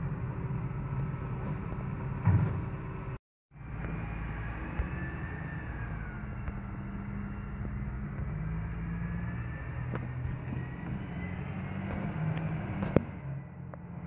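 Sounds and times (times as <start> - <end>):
muffled lorry diesel engine: 0.0 - 14.0.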